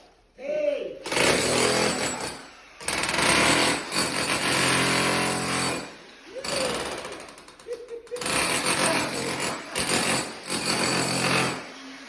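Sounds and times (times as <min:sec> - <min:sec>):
jackhammer hammering: 0:01.0 - 0:12.0.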